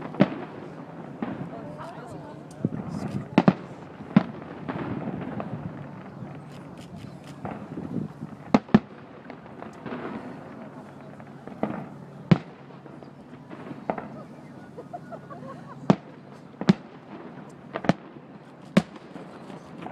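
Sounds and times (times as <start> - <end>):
distant fireworks bangs: 0.0 - 15.2, 15.8 - 19.9
faint fireworks crackling: 0.0 - 19.9.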